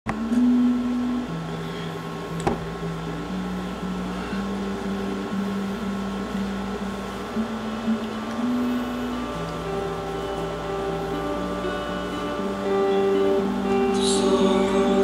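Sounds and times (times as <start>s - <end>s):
electronic synth melody: 0.3s - 15.0s.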